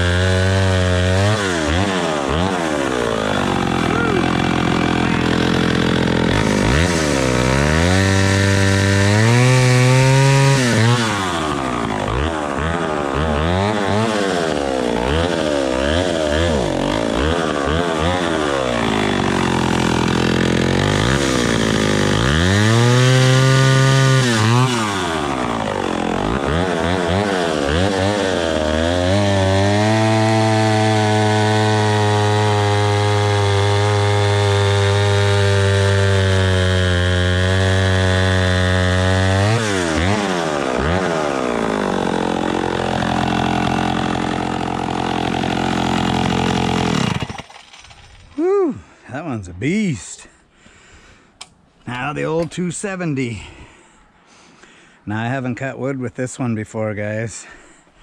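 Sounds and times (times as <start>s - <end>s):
chainsaw cutting log: 0.0s - 48.4s
chainsaw idling and revving: 0.0s - 48.9s.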